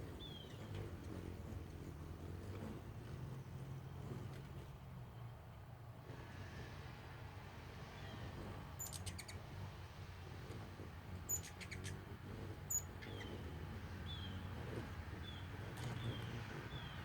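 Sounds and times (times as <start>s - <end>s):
hummingbirds chirping: 0.0s - 17.0s
steady low hum: 0.0s - 17.0s.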